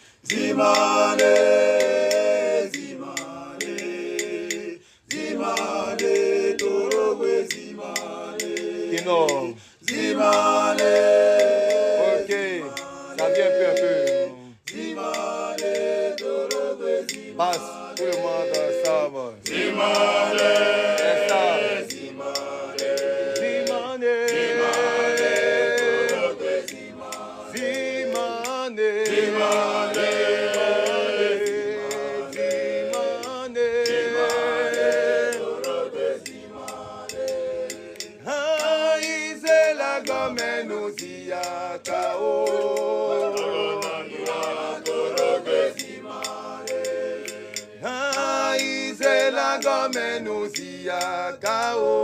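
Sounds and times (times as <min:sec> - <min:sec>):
choir singing in harmony: 0:00.0 - 0:52.0.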